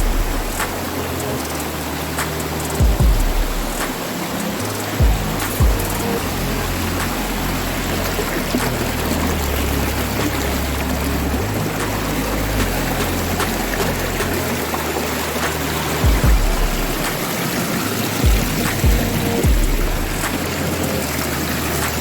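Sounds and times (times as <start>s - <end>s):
low bass background music: 0.0s - 22.0s
rush of falling water: 0.0s - 22.0s.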